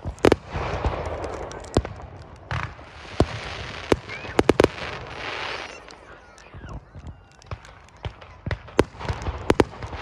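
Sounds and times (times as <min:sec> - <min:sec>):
fireworks bangs: 0:00.0 - 0:10.0
fireworks crackle: 0:00.0 - 0:10.0.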